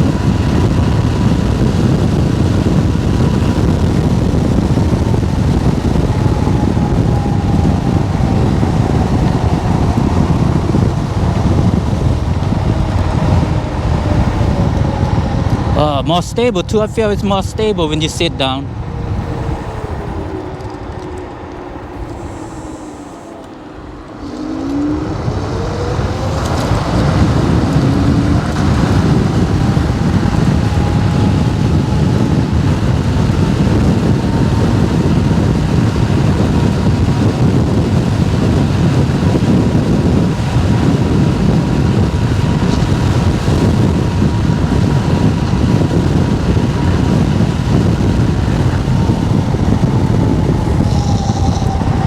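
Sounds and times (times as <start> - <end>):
electric scooter motor whining: 0.0 - 16.2, 18.6 - 52.0
wind rush: 0.0 - 52.0.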